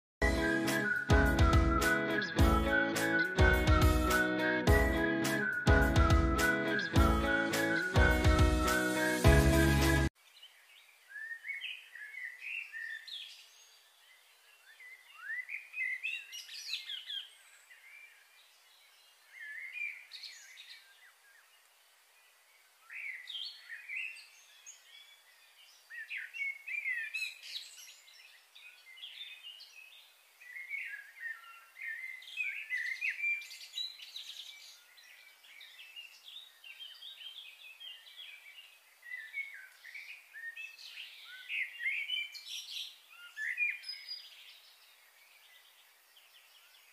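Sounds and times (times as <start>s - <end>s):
birds chirping and trilling: 0.2s - 21.7s, 22.4s - 46.9s.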